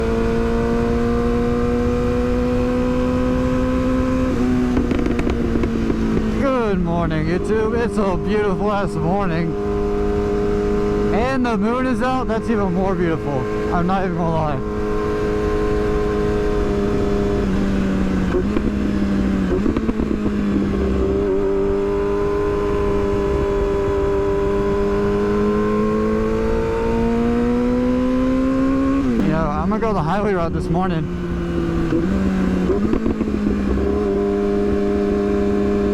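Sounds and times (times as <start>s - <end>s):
motorcycle engine at high revs: 0.0s - 35.9s
wind and road rush: 0.0s - 35.9s.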